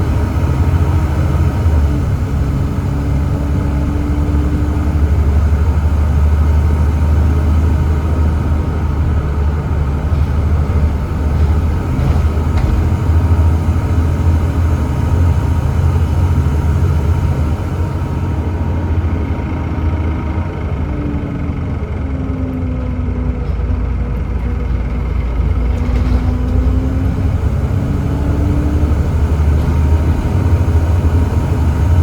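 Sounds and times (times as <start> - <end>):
bus diesel engine rumbling: 0.0 - 32.0.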